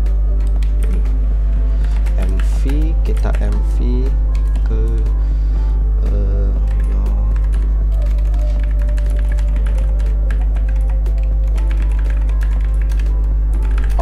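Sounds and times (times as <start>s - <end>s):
faint background music: 0.0s - 14.0s
steady low hum: 0.0s - 14.0s.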